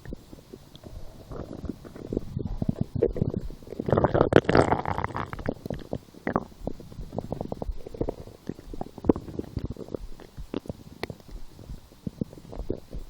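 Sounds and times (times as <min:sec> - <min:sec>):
stomach gurgling and growling: 0:00.0 - 0:13.0.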